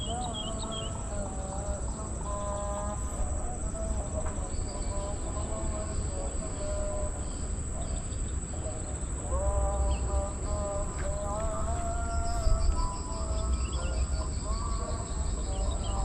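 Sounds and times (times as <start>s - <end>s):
high-pitched insect chorus: 0.0s - 16.0s
wind rumbling on microphone: 0.0s - 16.0s.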